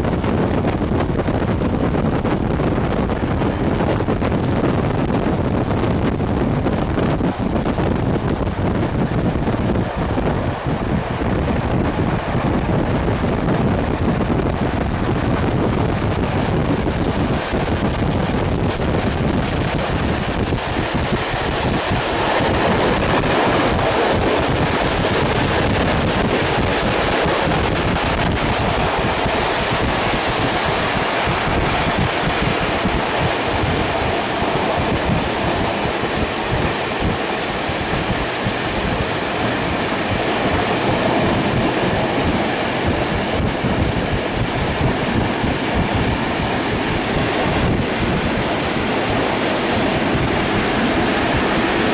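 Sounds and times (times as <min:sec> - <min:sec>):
train coaches running on rails: 0:00.0 - 0:51.9
wind rushing over microphone: 0:00.0 - 0:51.9.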